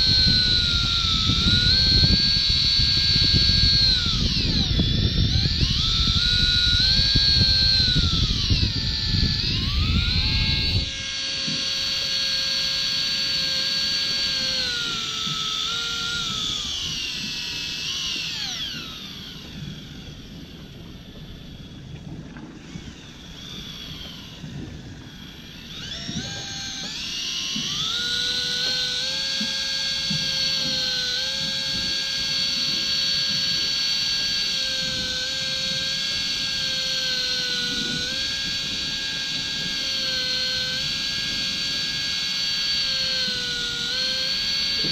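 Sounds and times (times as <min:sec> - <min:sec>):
fishing reel motor whining: 0:00.0 - 0:44.9.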